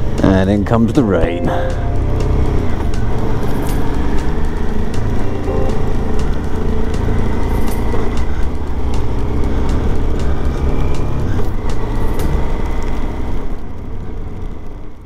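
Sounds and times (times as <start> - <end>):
motorcycle engine running: 0.0 - 15.0
sharp ticks: 1.9 - 15.0.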